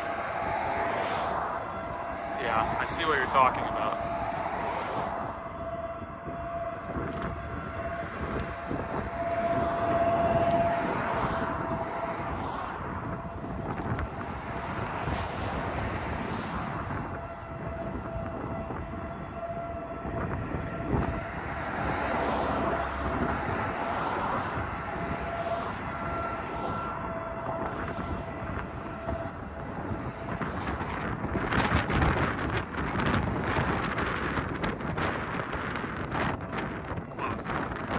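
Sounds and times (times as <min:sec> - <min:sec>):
highway traffic passing: 0:00.0 - 0:37.9
warning siren steady tone: 0:00.0 - 0:37.9
wind noise: 0:00.0 - 0:37.9.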